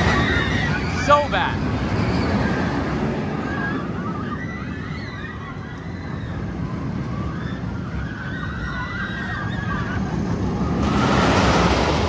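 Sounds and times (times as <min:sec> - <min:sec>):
riders screaming: 0:00.0 - 0:12.0
roller coaster rumbling on track: 0:00.0 - 0:12.0.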